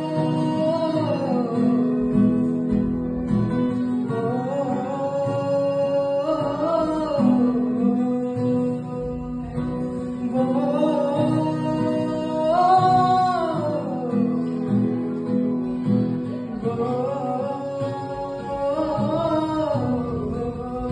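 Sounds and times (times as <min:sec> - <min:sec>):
man singing: 0:00.0 - 0:15.3, 0:16.2 - 0:20.9
strummed acoustic guitar: 0:00.0 - 0:20.9.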